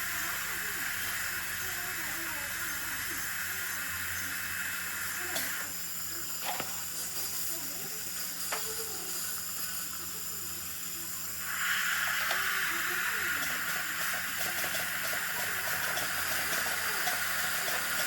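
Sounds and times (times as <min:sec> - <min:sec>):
water spray and suction hiss: 0:00.0 - 0:18.0.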